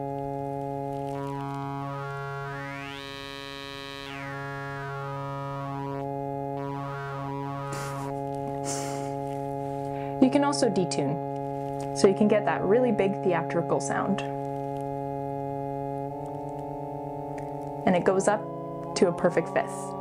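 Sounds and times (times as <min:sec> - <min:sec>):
low droning oscillator note: 0:00.0 - 0:20.0.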